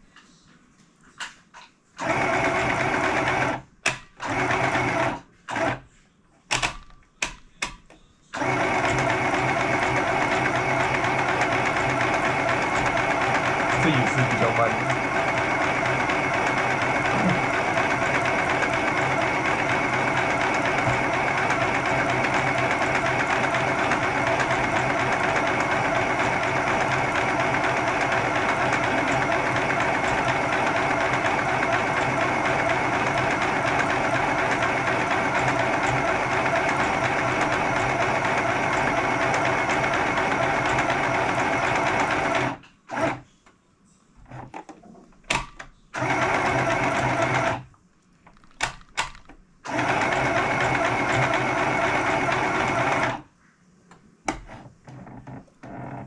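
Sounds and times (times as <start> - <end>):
sewing machine stitching: 2.0 - 5.8, 6.5 - 43.3, 44.2 - 47.7, 48.3 - 53.2, 54.3 - 56.0.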